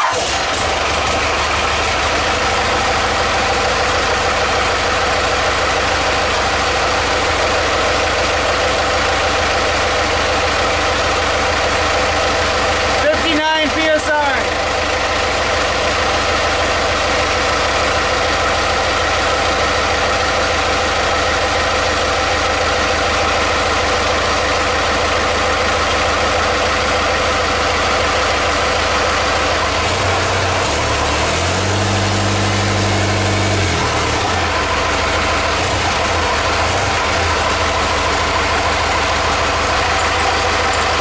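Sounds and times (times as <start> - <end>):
truck engine idling and revving: 0.0 - 41.0.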